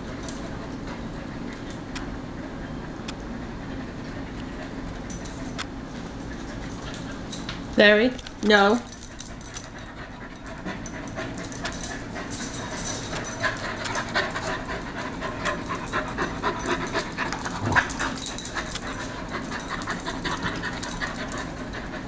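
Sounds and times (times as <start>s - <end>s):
dogs panting: 0.0s - 7.6s, 8.5s - 22.0s.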